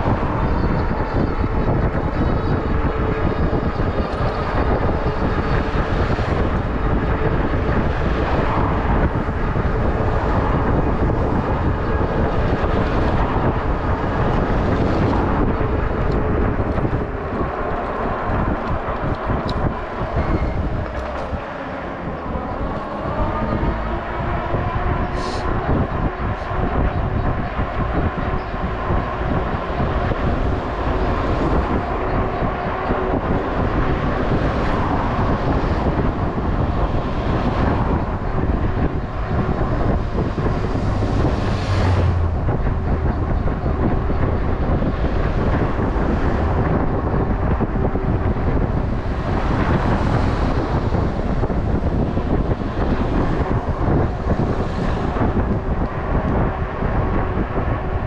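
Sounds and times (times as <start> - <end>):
tyre and road rumble: 0.0 - 58.0
wind rushing over microphone: 0.0 - 58.0.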